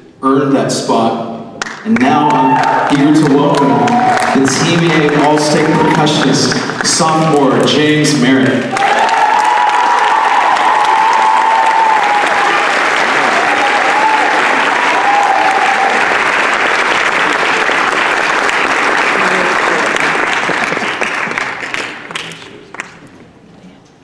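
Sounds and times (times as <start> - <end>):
audience applauding: 1.6 - 23.2.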